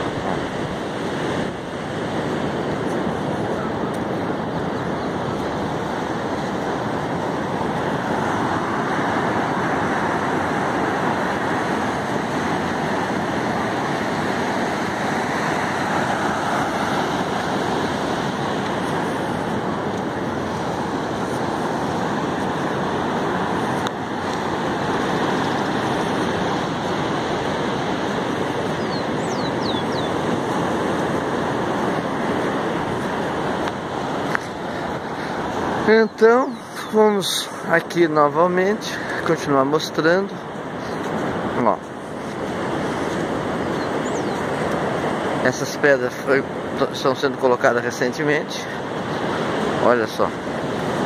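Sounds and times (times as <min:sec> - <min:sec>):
ocean surf breaking on beach: 0:00.0 - 0:51.0.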